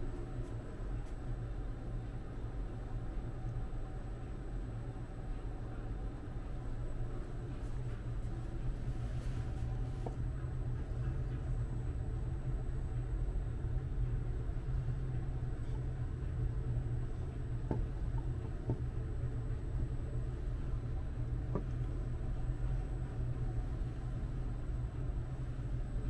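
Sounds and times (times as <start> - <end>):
low room rumble: 0.0 - 26.0.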